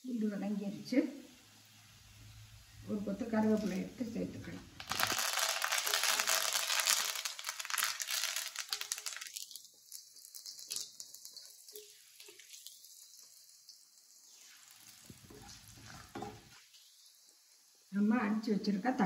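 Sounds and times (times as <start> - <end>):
leaves crackling in hot oil: 0.0 - 19.0.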